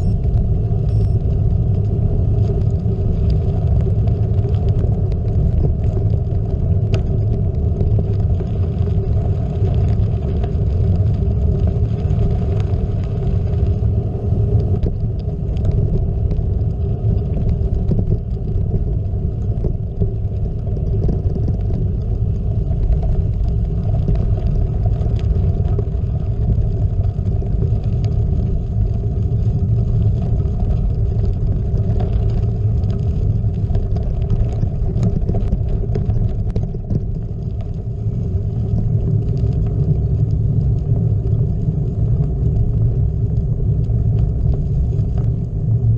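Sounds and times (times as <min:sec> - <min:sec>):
grit ticks and rattle: 0:00.0 - 0:45.9.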